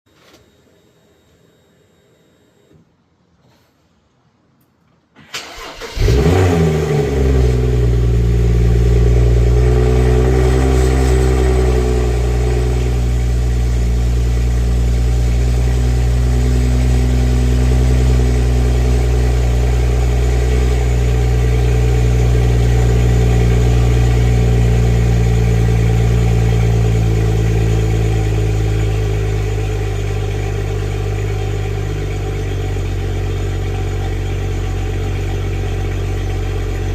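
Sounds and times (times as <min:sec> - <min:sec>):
car engine cranking and idling: 0:05.2 - 0:36.9.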